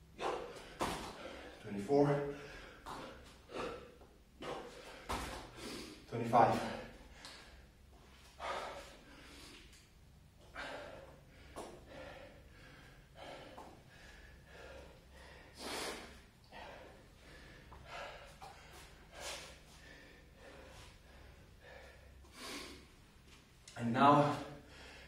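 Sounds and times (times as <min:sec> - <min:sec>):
man breathing hard: 0:00.0 - 0:23.1, 0:24.4 - 0:25.0.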